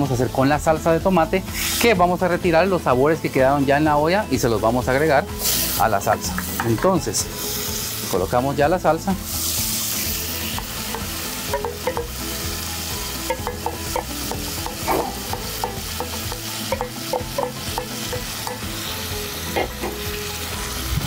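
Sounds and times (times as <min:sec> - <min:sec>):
sauce sizzling in a hot pot: 0:00.0 - 0:21.0.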